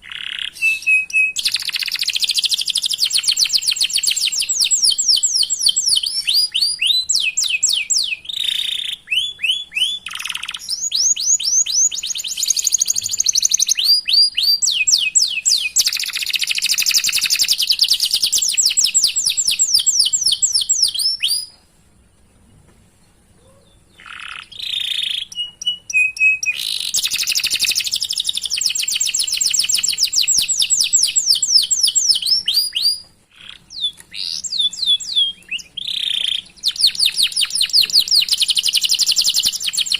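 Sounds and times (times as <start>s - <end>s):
canary singing chirps and trills: 0.0s - 39.9s.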